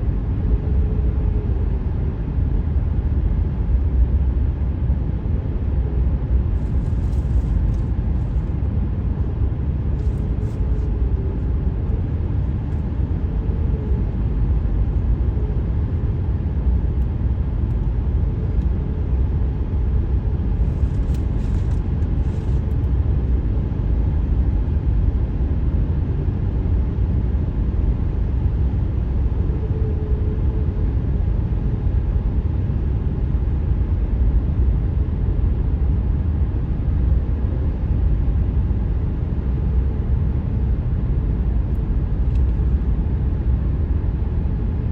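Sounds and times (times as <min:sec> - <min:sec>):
faint hum: 0:00.0 - 0:44.9.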